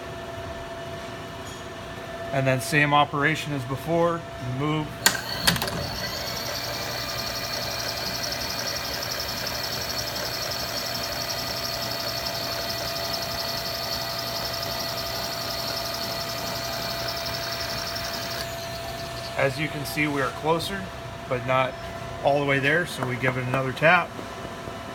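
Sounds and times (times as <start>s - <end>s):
motor hum with high whine: 0.0s - 24.9s.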